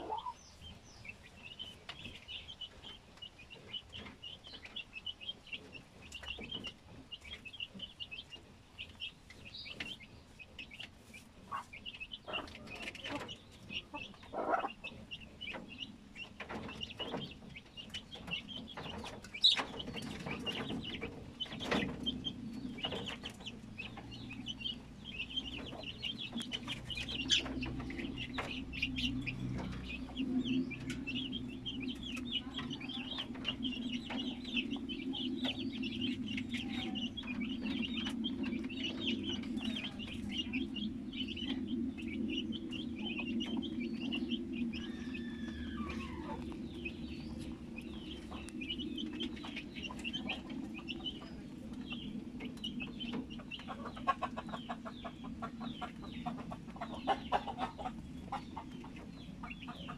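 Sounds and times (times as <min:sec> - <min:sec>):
birds calling: 0:00.0 - 0:59.9
low steady hum: 0:00.0 - 0:59.9
rabbits chewing grain feed: 0:00.0 - 0:59.9.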